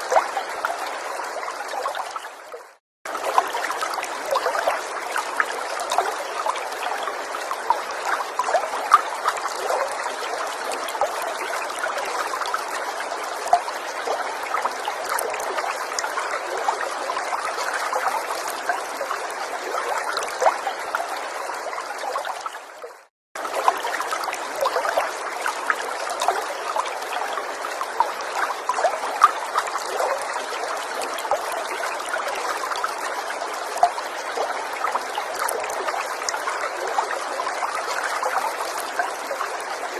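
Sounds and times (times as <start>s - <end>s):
small stream trickling and babbling: 0.0s - 39.9s.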